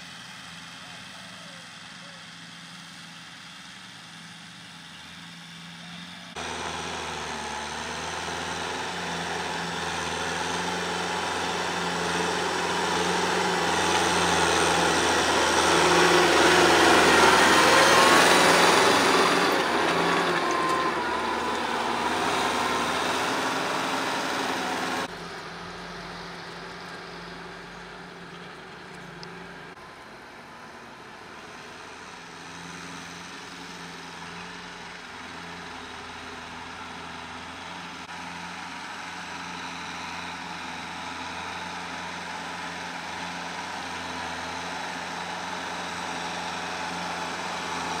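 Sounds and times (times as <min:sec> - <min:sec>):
tractor diesel engine under load: 0:00.0 - 0:48.0
rotary tiller working soil: 0:04.7 - 0:29.9, 0:31.8 - 0:48.0.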